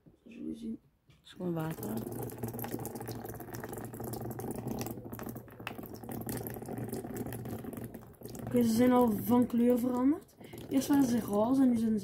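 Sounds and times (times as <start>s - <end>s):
water beads crackling: 1.6s - 12.0s
water pouring into container: 1.6s - 12.0s.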